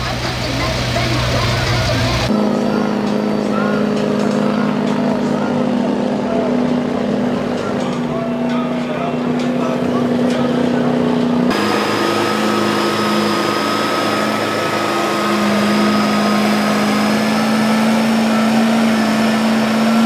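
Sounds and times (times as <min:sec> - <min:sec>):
truck engine revving high: 0:00.0 - 0:20.0.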